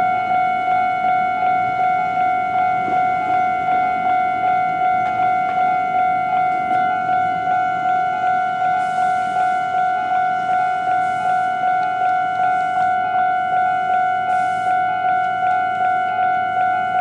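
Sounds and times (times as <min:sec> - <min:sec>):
level crossing alarm dinging: 0:00.0 - 0:17.0.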